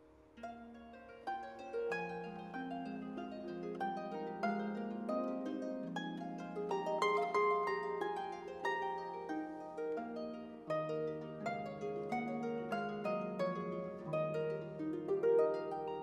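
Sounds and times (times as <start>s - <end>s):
harp playing: 0.0s - 16.0s.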